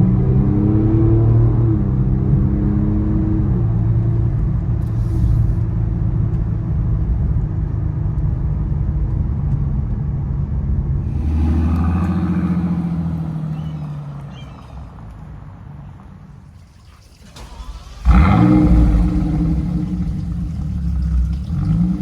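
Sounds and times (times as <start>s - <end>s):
car engine running: 3.3s - 16.6s, 17.3s - 22.0s.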